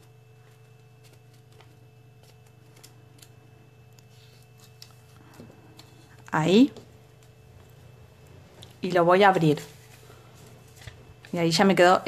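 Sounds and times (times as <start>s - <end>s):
low steady hum: 0.0s - 12.0s
paper crinkling while folded: 0.0s - 12.0s.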